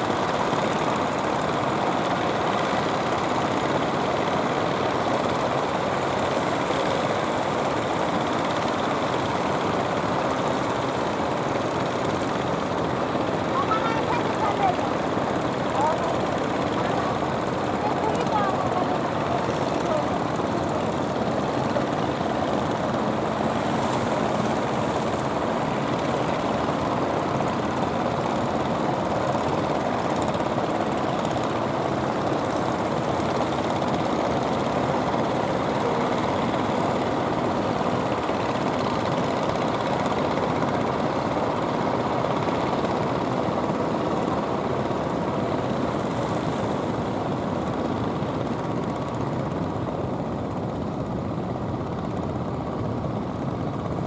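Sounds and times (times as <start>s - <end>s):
boat engines droning: 0.1s - 54.0s.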